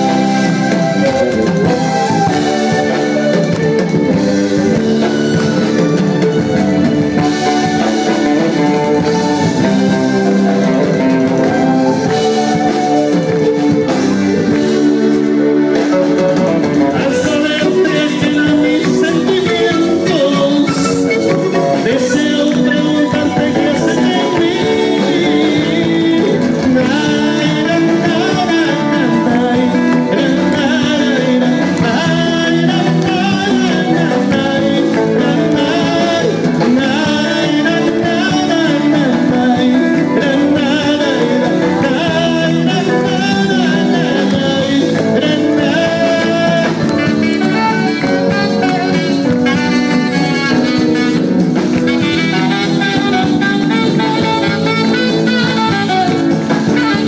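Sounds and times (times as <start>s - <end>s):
drums: 0.0s - 57.0s
guitars: 0.0s - 57.0s
horn: 0.0s - 57.0s
person singing: 0.0s - 57.0s.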